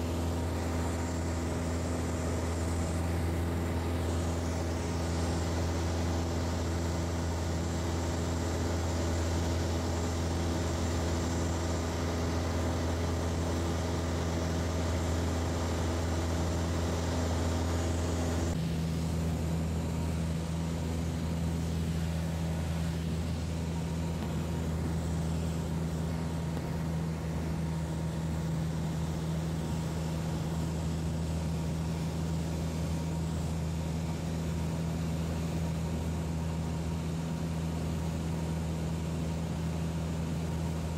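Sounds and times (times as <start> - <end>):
aircraft engine and propeller drone: 0.0 - 40.9.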